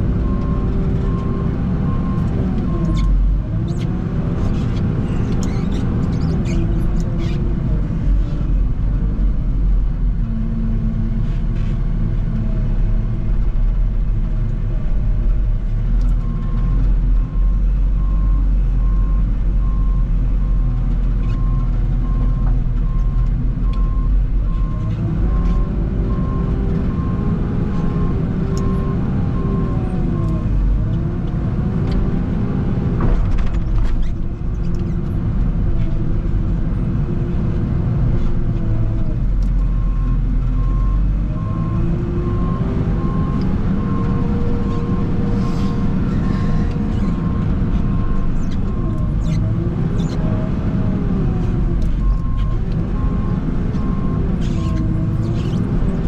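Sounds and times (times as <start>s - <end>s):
heavy machine engine rumbling: 0.0s - 56.0s.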